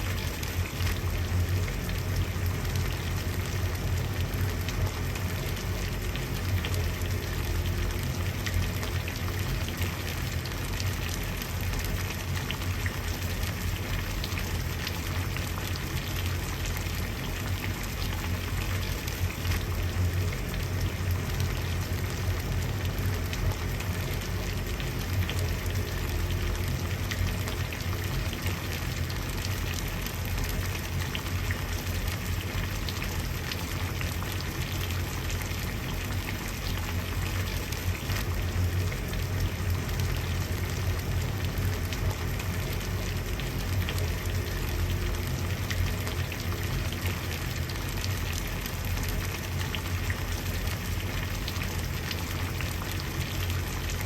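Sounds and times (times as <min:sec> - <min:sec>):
water boiling and bubbling: 0:00.0 - 0:54.0.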